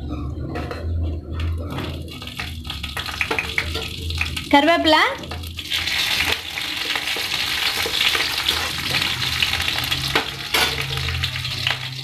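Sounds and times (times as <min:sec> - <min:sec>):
leaves sizzling in hot oil: 0:02.0 - 0:12.0.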